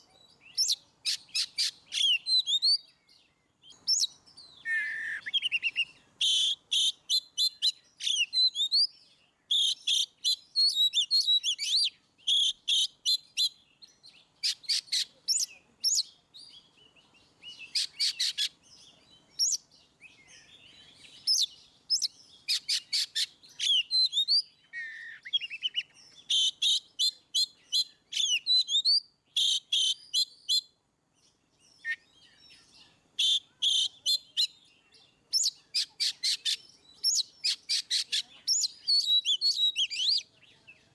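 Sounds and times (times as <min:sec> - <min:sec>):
songbird singing whistles: 0:00.2 - 0:40.9.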